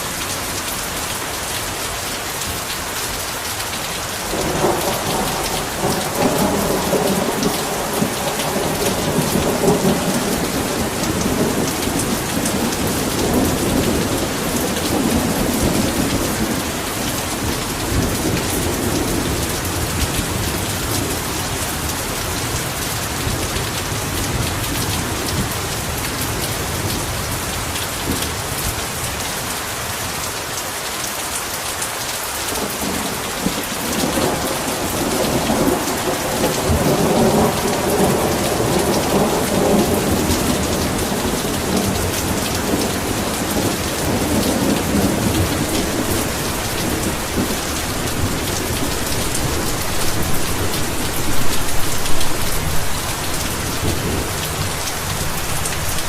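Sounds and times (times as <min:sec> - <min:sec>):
heavy rain falling: 0:00.0 - 0:56.0
low rolling thunder: 0:04.3 - 0:25.9, 0:32.6 - 0:56.0.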